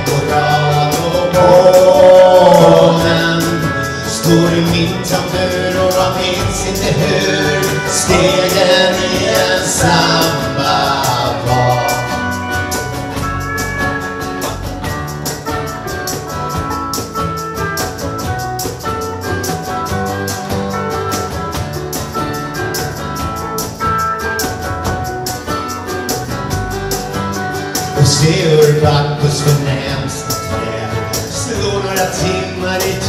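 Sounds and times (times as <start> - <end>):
acoustic guitar: 0.0 - 33.0
banjo: 0.0 - 33.0
drum kit steady beat: 0.0 - 33.0
lead melody line: 0.0 - 33.0
upright bass: 0.0 - 33.0.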